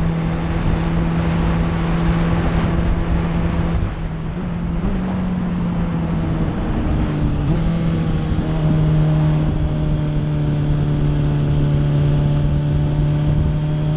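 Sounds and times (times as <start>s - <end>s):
motorcycle engine running: 0.0s - 13.9s
wind rumbling on microphone: 0.0s - 13.9s.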